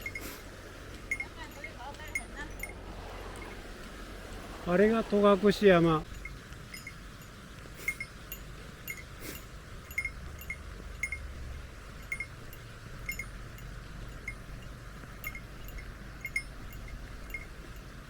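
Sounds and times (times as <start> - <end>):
small bell jingling: 0.0 - 0.4, 1.0 - 3.6, 6.0 - 18.0.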